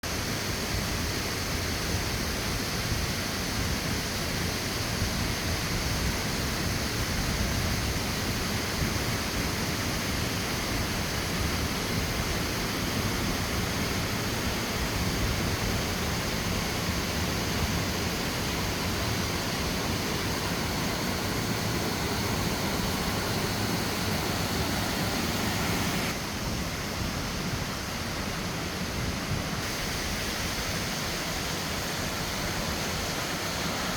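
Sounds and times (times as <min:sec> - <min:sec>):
water rushing in stream: 0:00.0 - 0:33.9.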